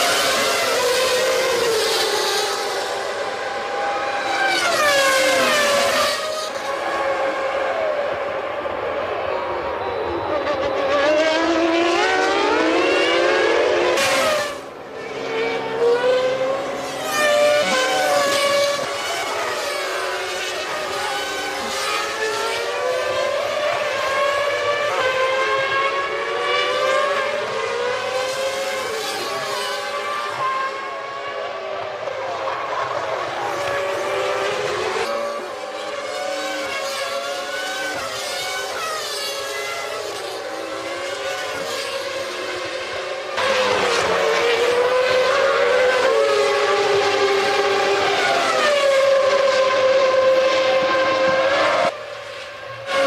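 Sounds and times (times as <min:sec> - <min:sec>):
racing car engines at high revs: 0:00.0 - 0:53.0.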